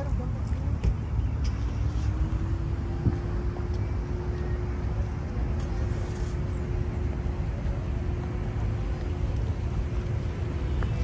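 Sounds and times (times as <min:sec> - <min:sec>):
constant humming tone: 0:00.0 - 0:11.0
low rumble of road traffic: 0:00.0 - 0:11.0.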